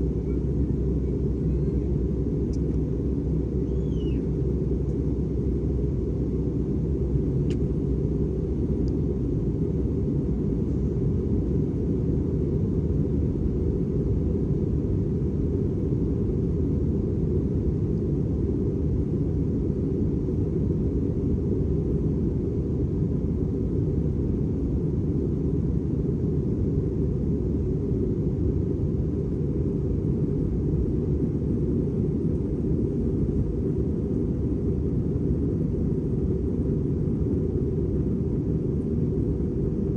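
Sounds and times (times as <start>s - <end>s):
airplane in flight rumble: 0.0s - 39.9s.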